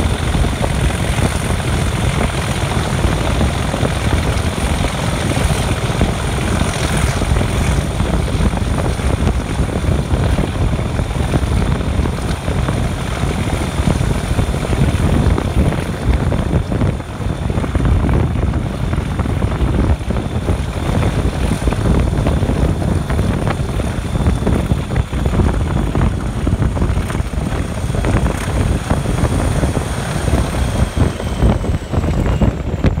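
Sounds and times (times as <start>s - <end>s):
diesel locomotive engine rumble: 0.0s - 33.0s
high engine whine: 0.0s - 33.0s
wind buffeting microphone: 0.0s - 33.0s.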